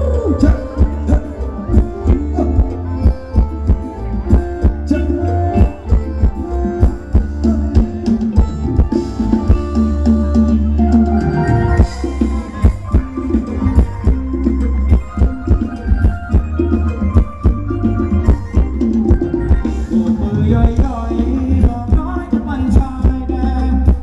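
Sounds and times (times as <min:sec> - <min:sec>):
band playing dance music: 0:00.0 - 0:24.0
drums steady beat: 0:00.0 - 0:24.0
heavy bass line: 0:00.0 - 0:24.0.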